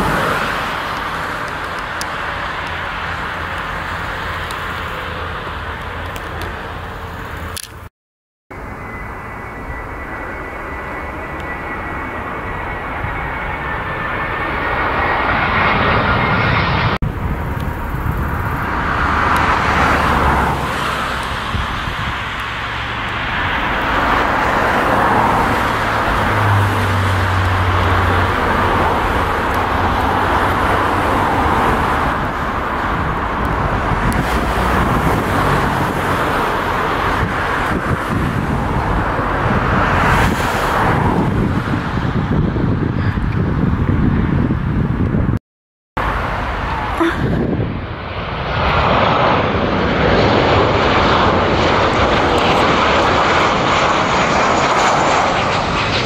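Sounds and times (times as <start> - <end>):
jet airliner engine rumble: 0.0 - 7.9, 8.5 - 45.4, 46.0 - 56.0.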